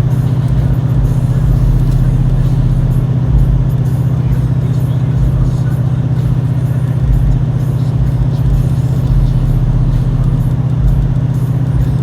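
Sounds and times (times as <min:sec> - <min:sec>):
engine running with even pulse: 0:00.0 - 0:12.0
low rumbling: 0:00.0 - 0:12.0.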